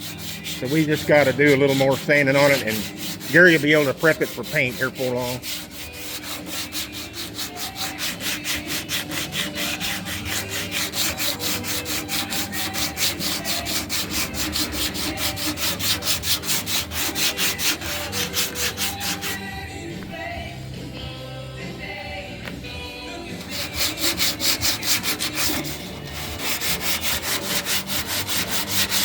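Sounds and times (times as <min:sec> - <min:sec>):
sandpaper rubbing on metal: 0:00.0 - 0:19.5, 0:23.4 - 0:29.0.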